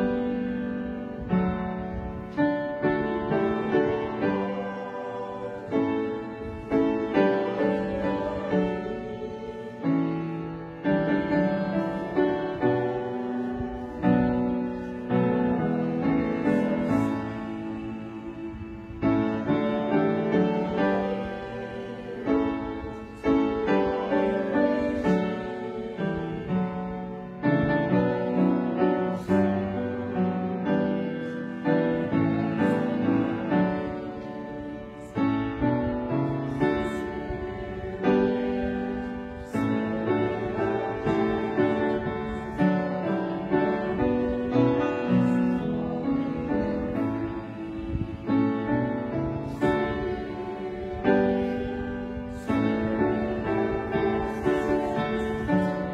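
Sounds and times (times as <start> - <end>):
piano playing slow chords: 0.0 - 55.9.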